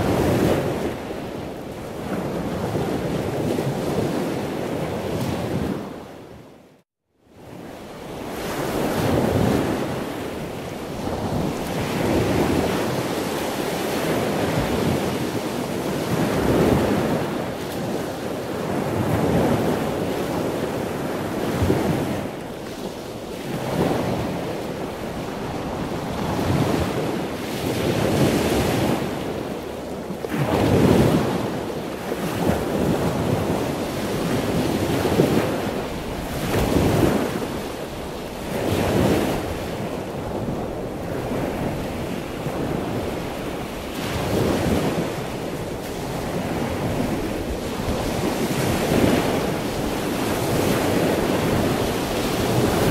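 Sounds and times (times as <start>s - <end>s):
wind across microphone: 0.0s - 52.9s.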